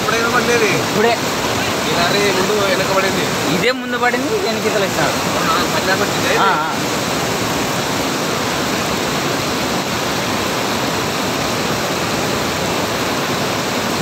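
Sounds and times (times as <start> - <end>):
floodwater rushing across road: 0.0 - 14.0.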